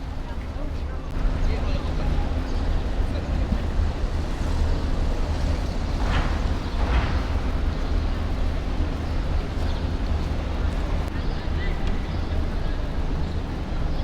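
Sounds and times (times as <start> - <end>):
general noisy din: 0.0 - 14.0.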